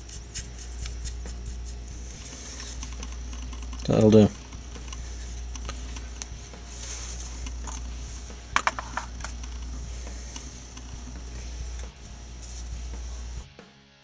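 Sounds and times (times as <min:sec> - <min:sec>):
low electrical hum: 0:00.0 - 0:13.5.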